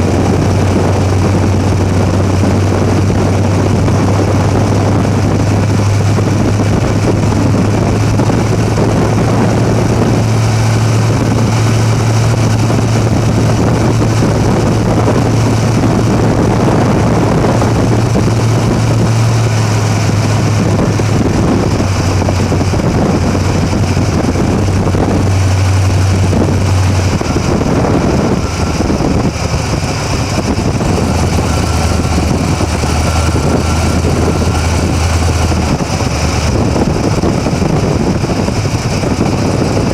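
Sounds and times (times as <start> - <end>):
car engine low drone: 0.0 - 39.9.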